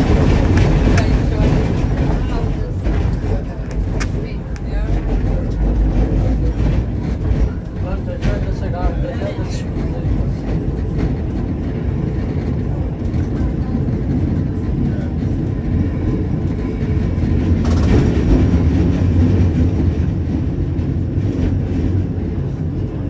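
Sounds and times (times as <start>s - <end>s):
tram wheels rumbling: 0.0s - 23.0s.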